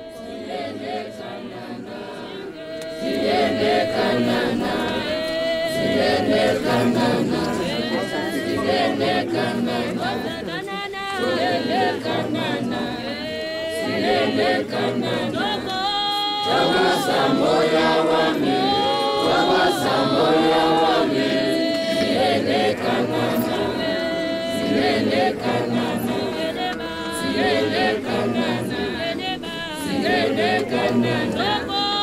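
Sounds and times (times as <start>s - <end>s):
group singing unaccompanied: 0.0s - 32.0s.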